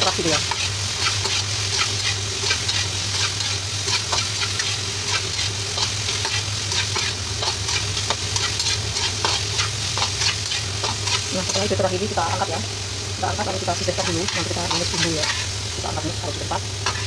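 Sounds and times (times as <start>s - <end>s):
metal spatula scraping wok: 0.0s - 12.4s, 13.5s - 17.0s
beans sizzling in oil: 0.0s - 17.0s.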